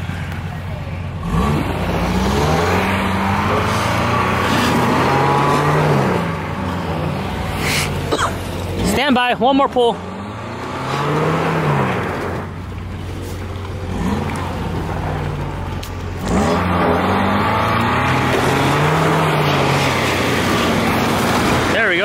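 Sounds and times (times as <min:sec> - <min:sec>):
off-road engines revving: 0:00.0 - 0:22.0.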